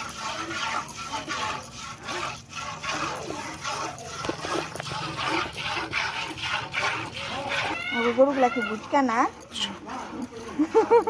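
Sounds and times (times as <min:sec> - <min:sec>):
milk squirting into steel bucket: 0:00.0 - 0:11.0.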